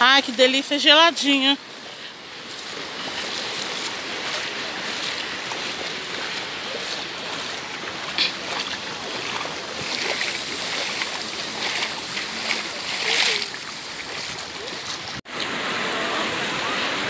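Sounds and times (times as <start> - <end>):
feet wading and splashing: 0.1 - 17.0
surf washing over sand: 0.1 - 17.0.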